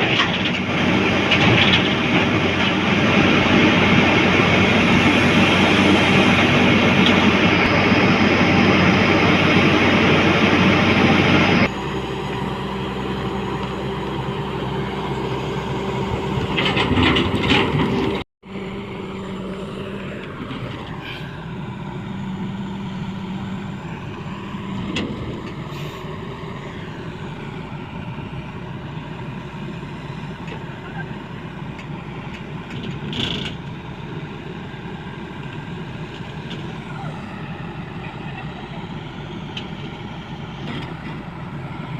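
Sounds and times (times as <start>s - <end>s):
heavy diesel machinery engines: 0.0s - 41.9s.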